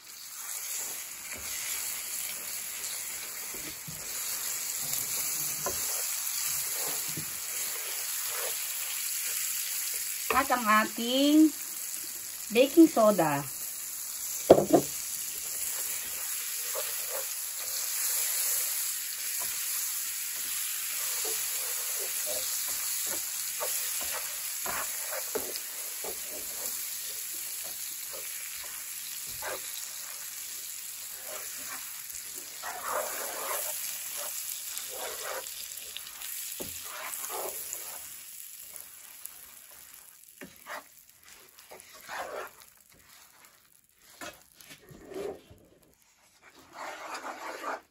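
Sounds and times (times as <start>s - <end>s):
mixture sizzling in frying pan: 0.0s - 47.8s
wooden spatula scraping pan: 2.4s - 9.4s, 14.5s - 38.2s, 39.7s - 47.9s.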